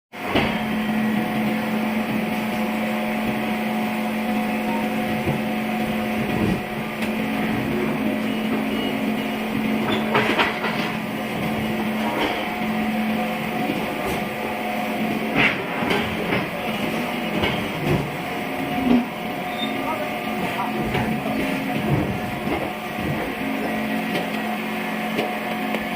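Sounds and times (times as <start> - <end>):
machine humming: 0.2 - 25.9.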